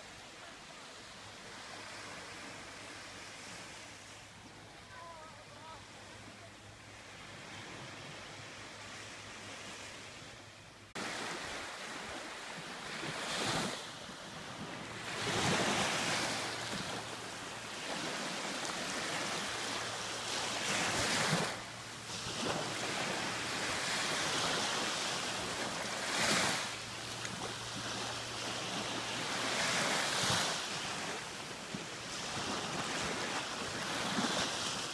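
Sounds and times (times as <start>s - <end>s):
waves crashing on a beach: 0.0s - 10.4s, 11.0s - 34.9s.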